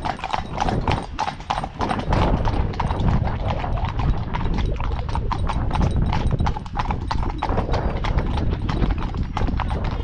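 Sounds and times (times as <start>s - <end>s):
horse hooves on road: 0.0s - 10.0s.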